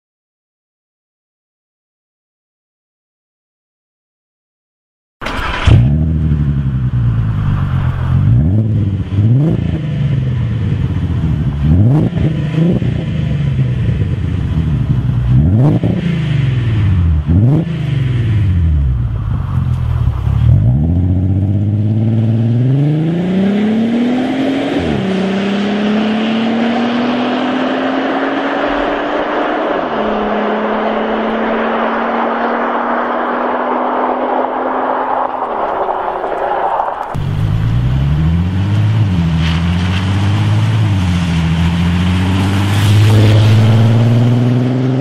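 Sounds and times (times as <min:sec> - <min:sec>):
car engine revving and accelerating: 0:05.2 - 0:45.0.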